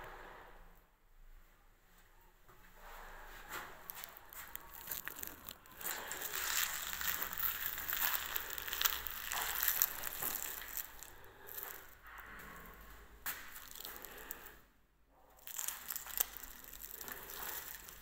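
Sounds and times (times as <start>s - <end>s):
crackling rustling noise: 2.0s - 14.7s, 15.3s - 18.0s.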